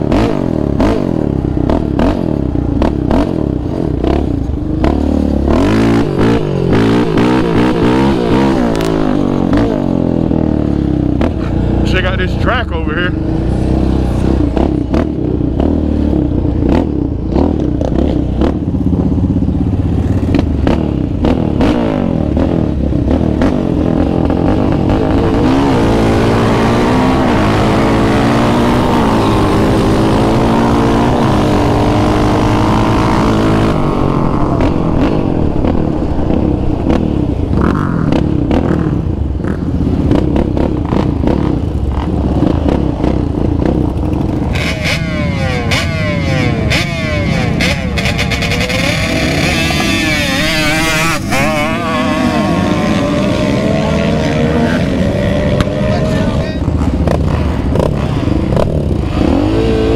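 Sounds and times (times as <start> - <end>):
quad engine running: 0.0 - 59.9
wind rushing over microphone: 0.0 - 59.9.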